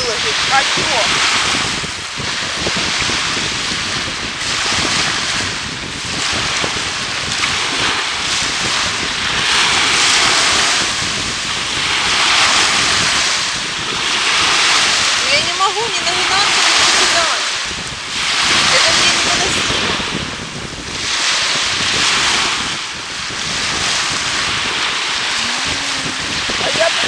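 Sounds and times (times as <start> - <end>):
sea surf washing in: 0.0 - 27.0
wind buffeting microphone: 0.0 - 27.0.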